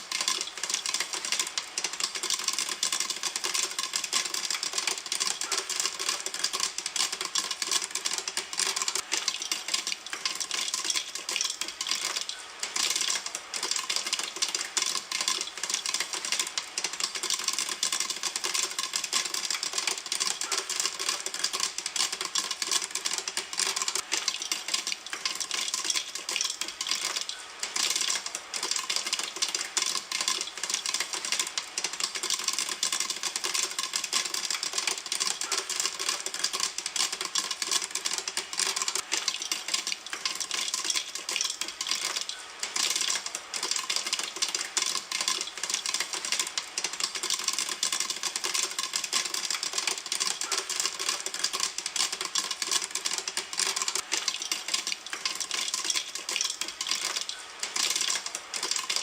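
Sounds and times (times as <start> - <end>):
popcorn popping in a pan: 0.0 - 59.0.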